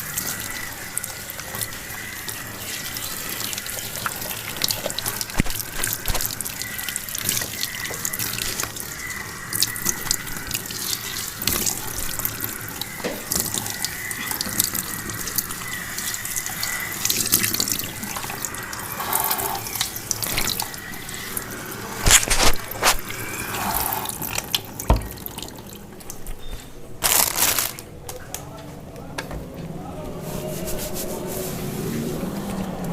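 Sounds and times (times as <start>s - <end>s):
tap water running into sink: 0.0s - 26.4s
water splashing: 0.0s - 26.4s.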